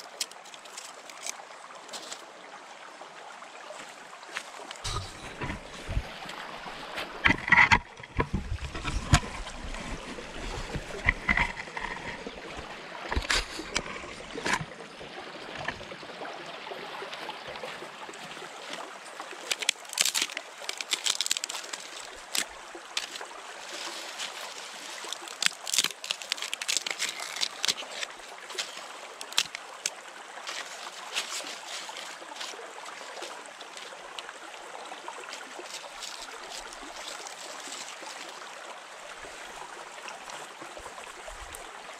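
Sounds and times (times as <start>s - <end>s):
water splashes and knocks: 0.0s - 2.3s, 3.7s - 14.8s, 15.4s - 16.0s, 17.1s - 41.7s
stream trickling over stones: 0.0s - 41.9s.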